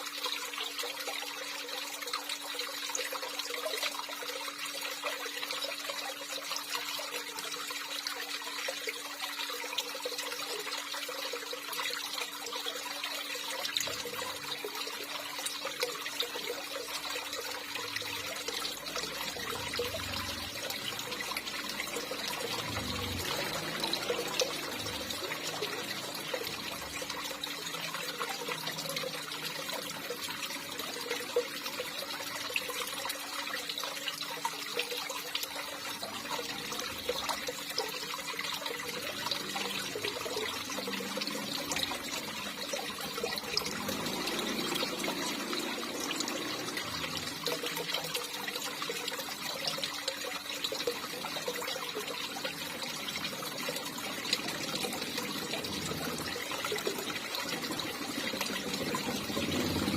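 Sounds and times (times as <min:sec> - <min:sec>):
small water splashes: 0:00.0 - 0:59.9
water trickling and pouring: 0:00.0 - 0:59.9.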